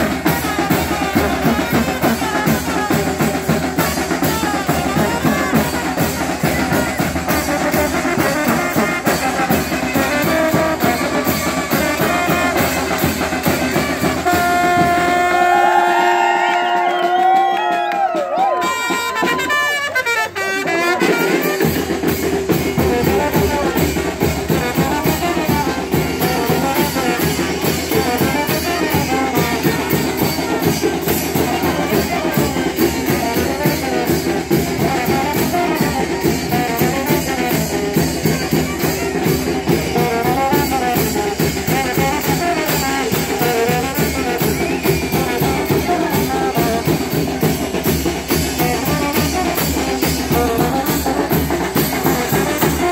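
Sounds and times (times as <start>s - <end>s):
brass band melody: 0.0s - 52.9s
drums and cymbals beat: 0.0s - 52.9s.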